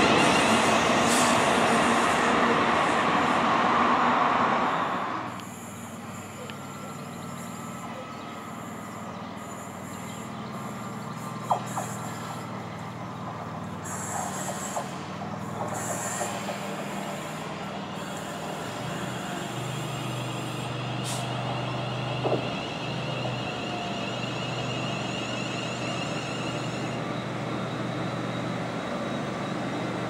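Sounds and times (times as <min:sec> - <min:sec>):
electric train humming: 0:00.0 - 0:30.0.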